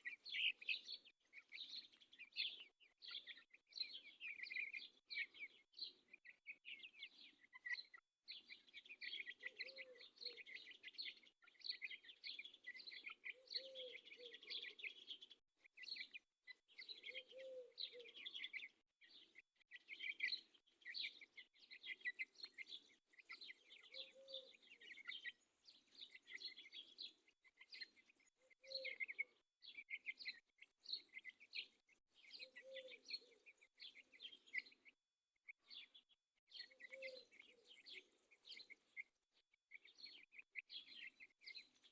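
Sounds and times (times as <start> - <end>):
many birds chirping: 0.0 - 41.9.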